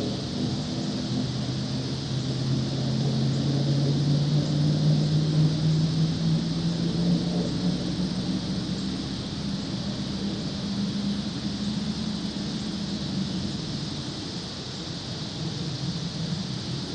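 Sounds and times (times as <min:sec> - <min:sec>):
truck engine running under load: 0:00.0 - 0:14.5
steady hiss: 0:00.0 - 0:16.9.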